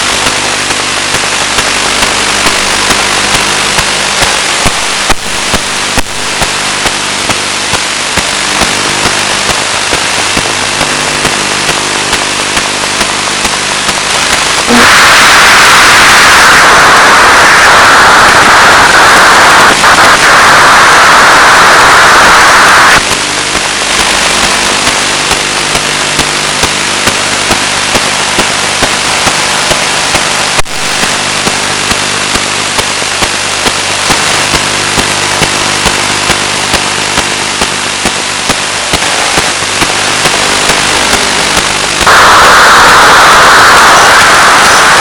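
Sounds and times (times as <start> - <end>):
interference buzz with clicks: 0.0 - 45.0
radio receiver hiss: 0.0 - 45.0.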